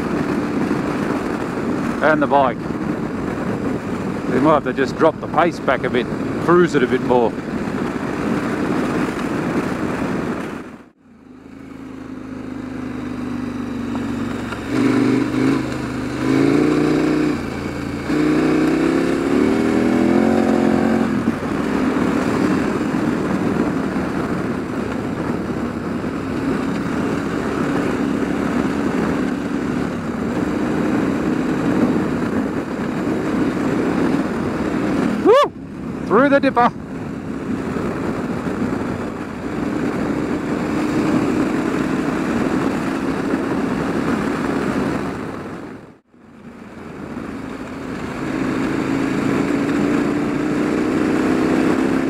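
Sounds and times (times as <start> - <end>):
motorcycle engine accelerating: 0.0 - 52.0
wind and road noise: 0.0 - 52.0.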